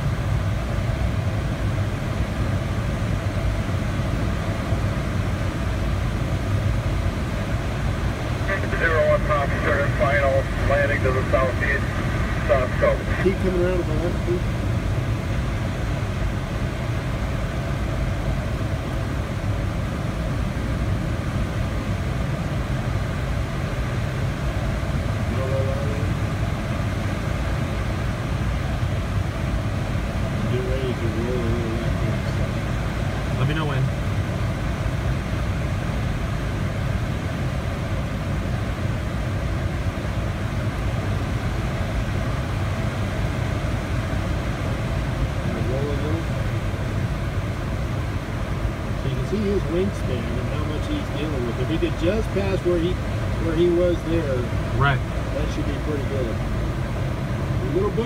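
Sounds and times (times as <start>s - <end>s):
airflow rushing around glider cockpit: 0.0s - 58.0s.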